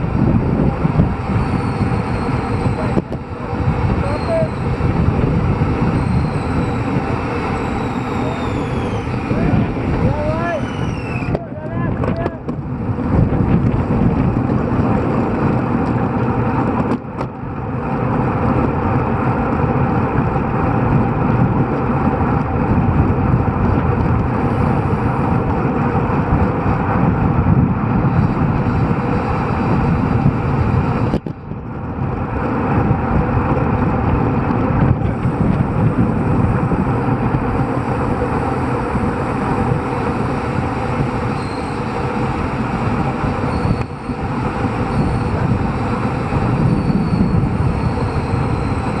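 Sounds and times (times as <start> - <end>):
bicycle road noise: 0.0 - 49.0
wind rush: 0.0 - 49.0.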